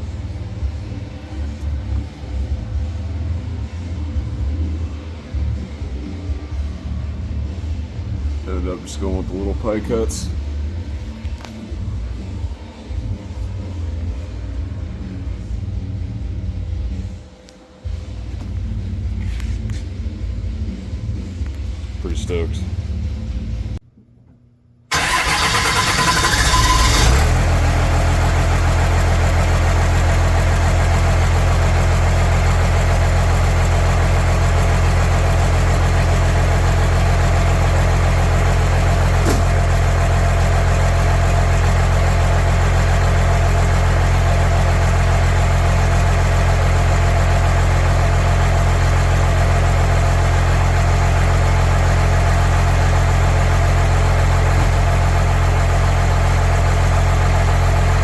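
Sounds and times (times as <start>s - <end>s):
diesel engine idling: 0.0s - 23.8s, 24.9s - 58.0s.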